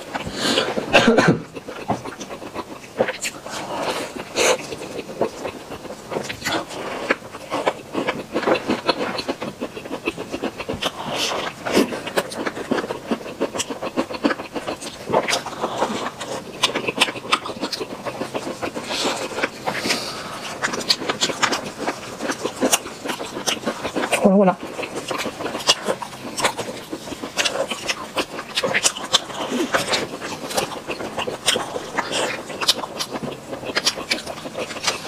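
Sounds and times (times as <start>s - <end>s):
close chewing with wet mouth clicks: 0.0s - 35.0s.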